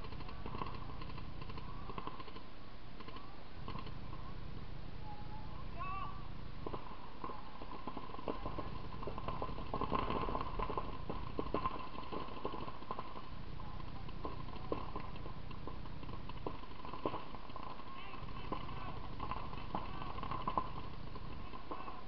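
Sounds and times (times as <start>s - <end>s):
distant paintball markers firing: 0.0s - 4.2s, 6.6s - 22.0s.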